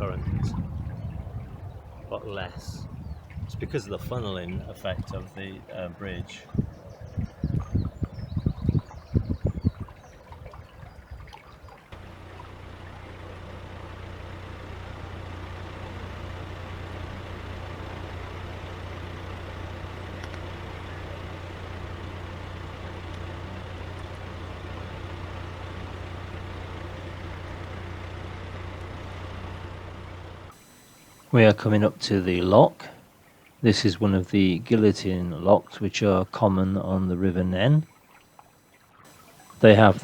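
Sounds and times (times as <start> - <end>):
small boat motor humming: 0.0 - 40.0.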